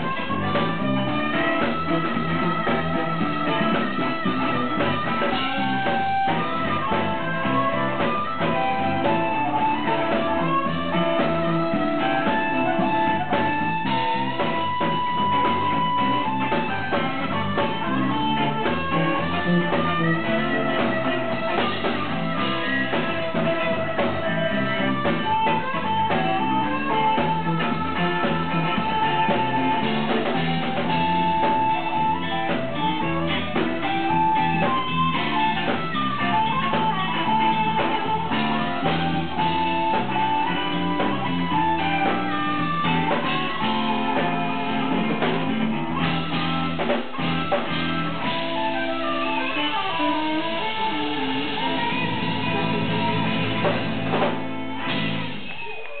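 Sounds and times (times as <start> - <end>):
blues-rock band playing: 0.0 - 56.0
harmonica long notes: 0.0 - 56.0.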